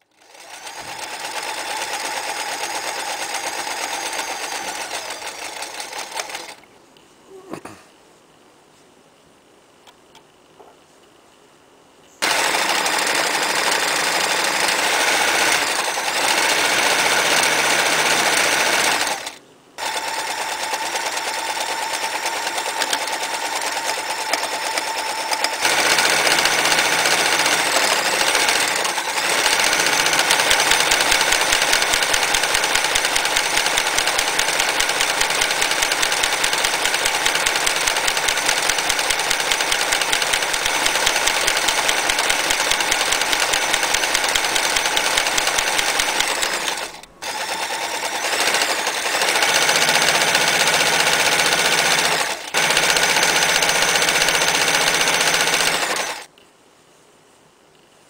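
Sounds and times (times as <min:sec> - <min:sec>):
electric sewing machine running: 0:00.0 - 0:06.6, 0:12.2 - 0:56.3.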